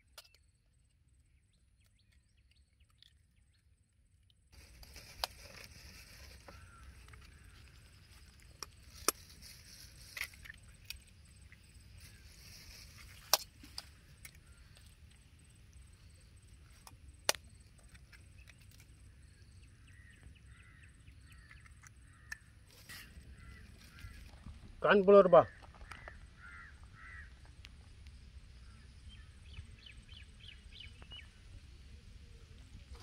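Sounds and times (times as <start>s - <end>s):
quiet outdoor background: 0.0s - 33.0s.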